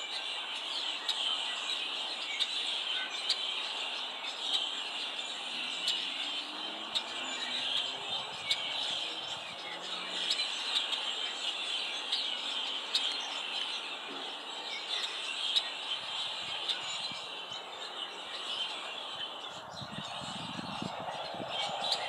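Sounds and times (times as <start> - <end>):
flock of small birds chirping: 0.0 - 22.0.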